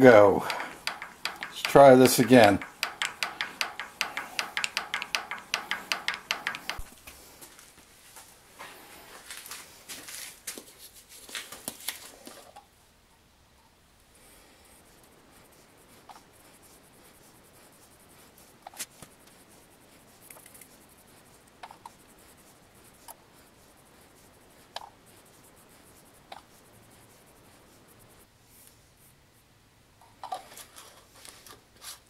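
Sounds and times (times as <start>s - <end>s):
faint brushing strokes: 0.0s - 12.6s, 14.0s - 29.6s.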